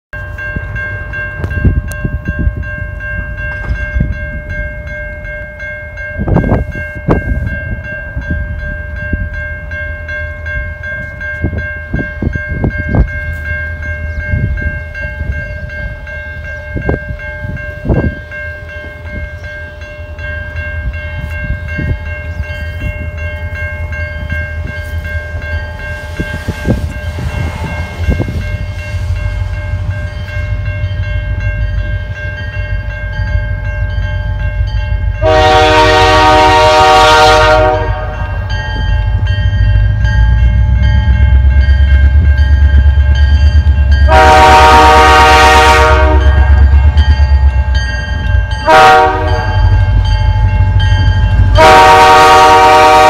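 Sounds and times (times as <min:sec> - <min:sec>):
approaching freight train: 0:00.1 - 0:53.0
railroad crossing bell ringing: 0:00.1 - 0:53.0.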